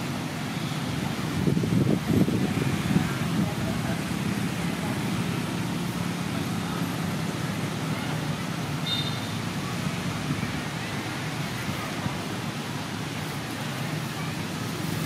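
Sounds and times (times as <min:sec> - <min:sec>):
outdoor background rumble and hiss: 0:00.0 - 0:15.0.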